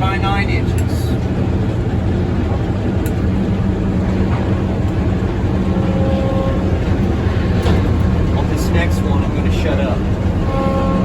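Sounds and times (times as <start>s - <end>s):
power unit low drone: 0.0s - 11.0s.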